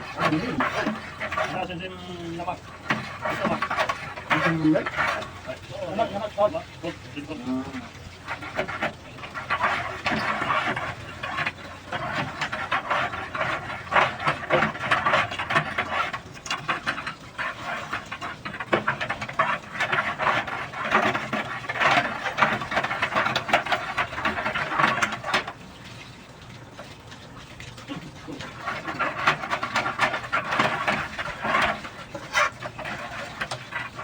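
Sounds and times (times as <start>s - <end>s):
water and air spurting: 0.0s - 34.0s.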